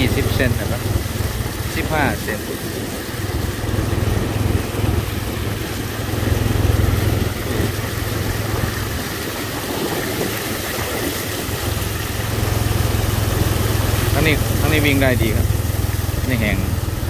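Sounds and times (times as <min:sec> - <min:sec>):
motorcycle engine idling: 0:00.0 - 0:17.0
truck driving through water: 0:00.0 - 0:17.0.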